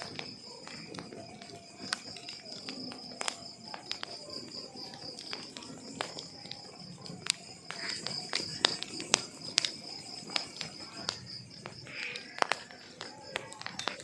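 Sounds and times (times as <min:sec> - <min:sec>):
burning logs rustling: 0:00.0 - 0:14.0
fire crackling and popping: 0:00.0 - 0:14.0.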